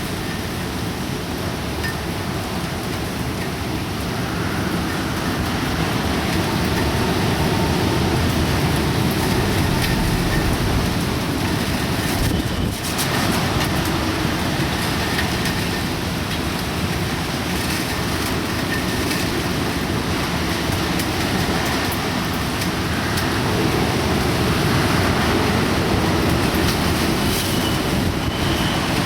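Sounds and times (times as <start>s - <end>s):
heavy rain and wind: 0.0s - 29.0s.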